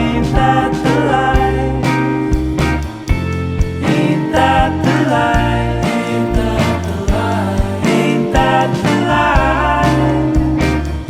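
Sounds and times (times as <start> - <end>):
instrumental rock music: 0.0 - 11.0.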